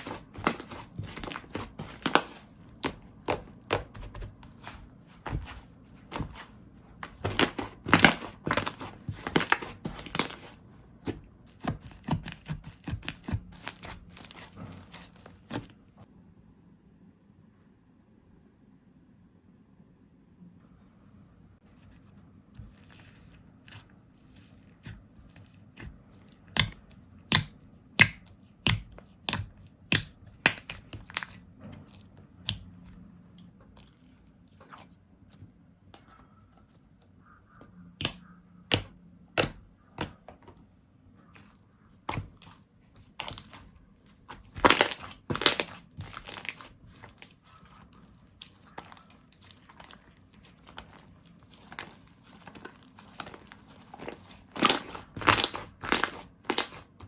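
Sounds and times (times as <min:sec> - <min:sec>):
crackly slime squish: 0:00.0 - 0:16.0, 0:22.6 - 0:37.1, 0:38.0 - 0:57.0.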